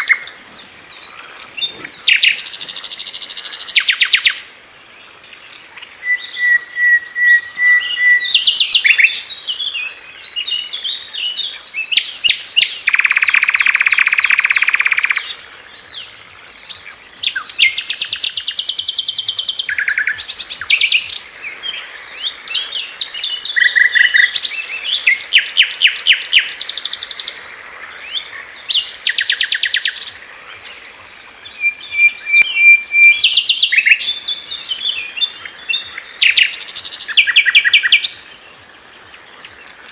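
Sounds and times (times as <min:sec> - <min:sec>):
bird chirps and trills: 0:05.3 - 0:39.9.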